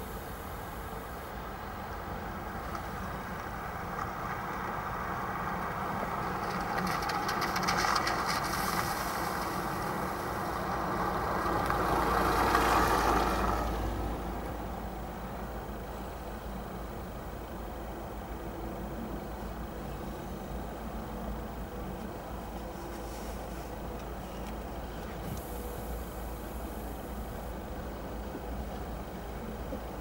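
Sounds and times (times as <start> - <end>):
train rushing rail noise: 4.7 - 30.0.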